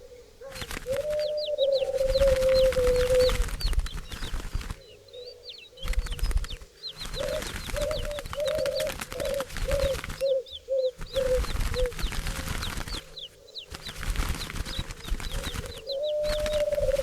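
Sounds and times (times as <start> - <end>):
small birds chirping: 0.0 - 17.0
turtle dove purring: 0.4 - 17.0.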